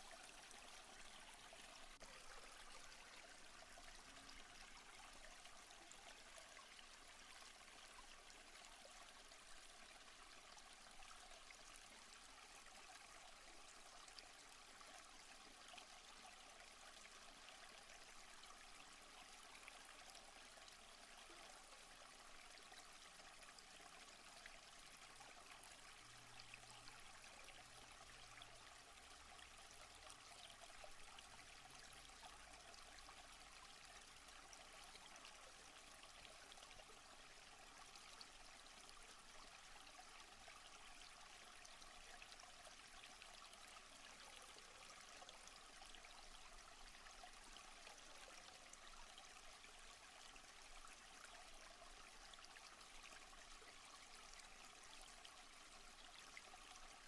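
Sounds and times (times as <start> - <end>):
stream and waterfall over rock: 0.0 - 57.0.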